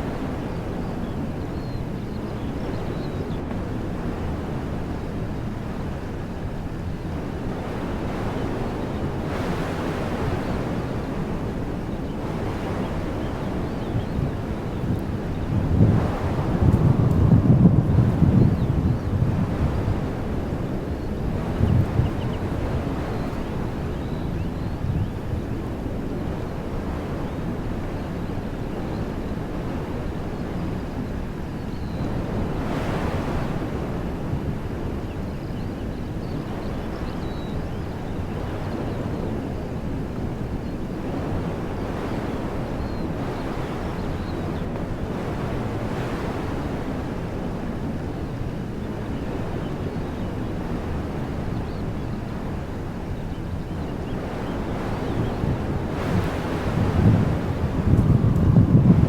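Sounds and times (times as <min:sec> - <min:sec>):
wind blowing through trees: 0:00.0 - 0:59.0
wind rumble on microphone: 0:00.0 - 0:59.0.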